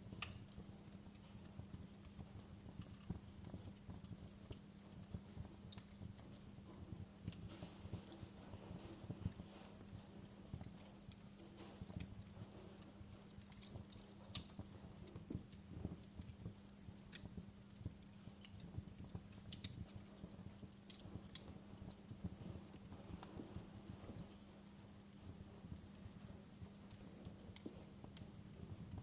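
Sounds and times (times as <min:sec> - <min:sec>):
steady low hum: 0:00.0 - 0:29.0
wood fire crackling: 0:00.0 - 0:29.0.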